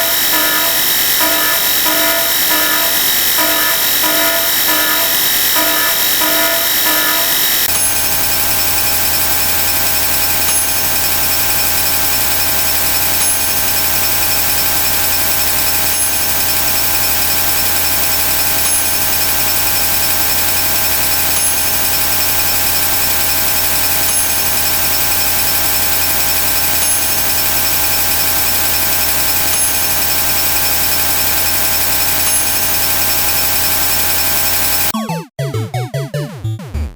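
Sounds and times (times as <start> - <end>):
pulsing beeps: 0.0 - 35.1
overlapping alarm tones: 0.0 - 36.2.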